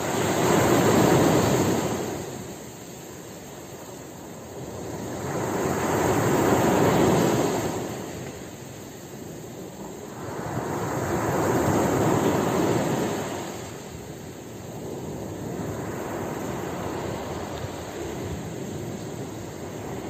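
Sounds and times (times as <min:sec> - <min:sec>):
sea waves washing in: 0:00.0 - 0:20.0.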